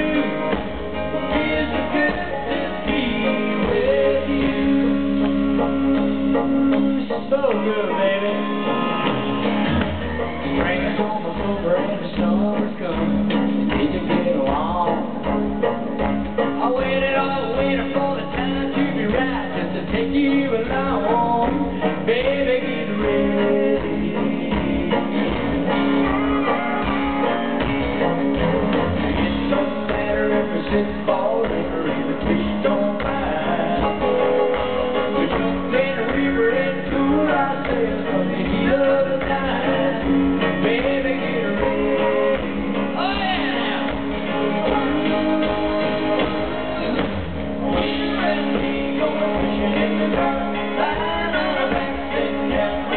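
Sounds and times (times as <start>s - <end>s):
country rock band playing: 0.0s - 52.9s
steady drum beat: 0.0s - 52.9s.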